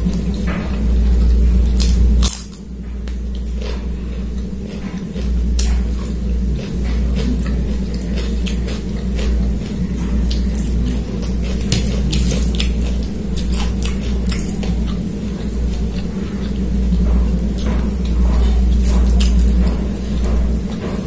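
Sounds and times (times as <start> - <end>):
chewing: 0.0 - 21.0
steady low hum: 0.0 - 21.0.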